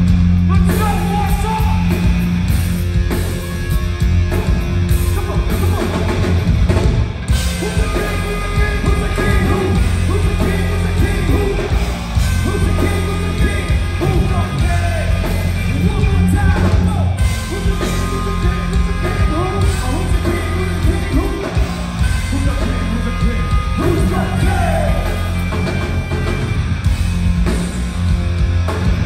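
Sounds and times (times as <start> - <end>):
rock band playing loud: 0.0 - 29.0.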